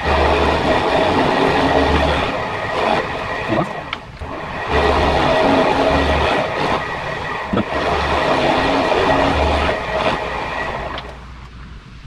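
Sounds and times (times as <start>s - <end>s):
milling machine cutting metal: 0.0s - 11.4s.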